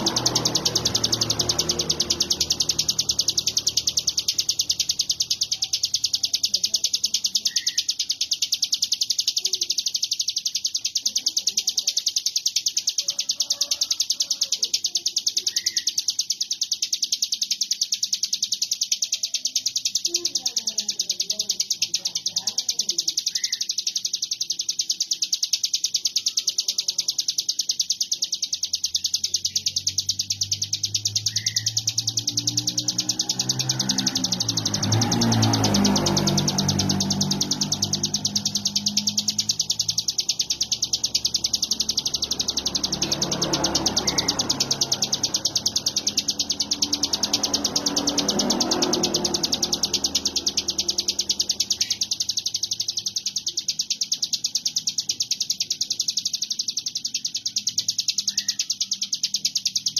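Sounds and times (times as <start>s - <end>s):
small bird singing rapid chatter: 0.0s - 59.9s.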